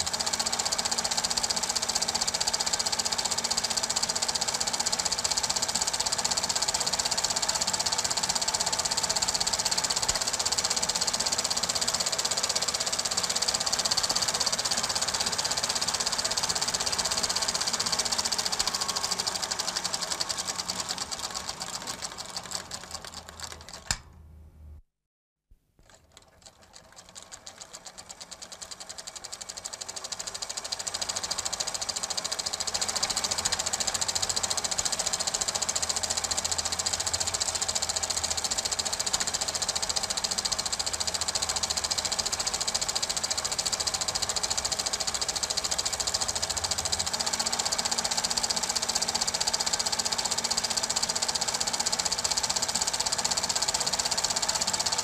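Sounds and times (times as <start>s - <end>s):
film projector clattering: 0.0s - 24.1s, 25.8s - 55.0s.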